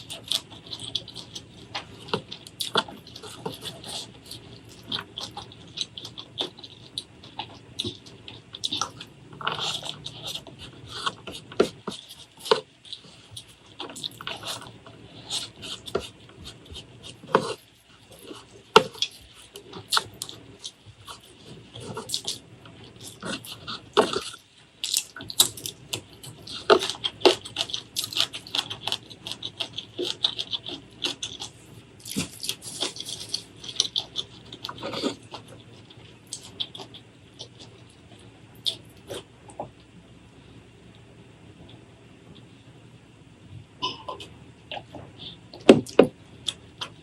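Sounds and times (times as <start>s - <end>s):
chewing with wet mouth smacks: 0.0s - 39.8s.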